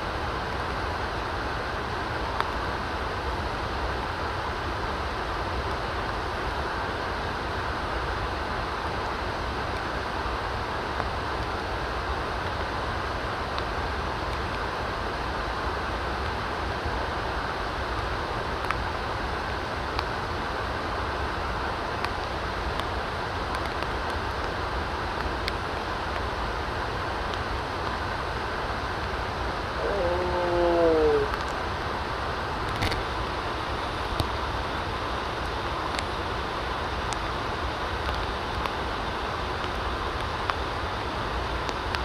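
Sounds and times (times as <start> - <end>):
rushing outdoor background noise: 0.0 - 42.0.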